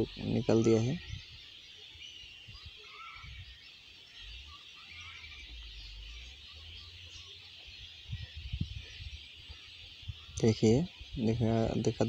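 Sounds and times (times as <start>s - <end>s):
distant birds chirping: 0.0s - 12.0s.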